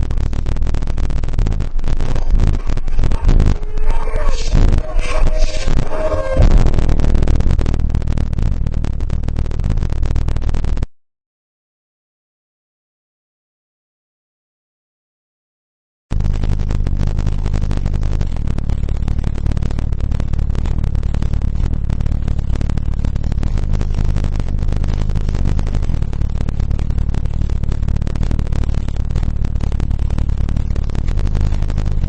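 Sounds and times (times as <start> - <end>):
distorted subwoofer bass rumble: 0.0 - 11.0, 16.1 - 32.0.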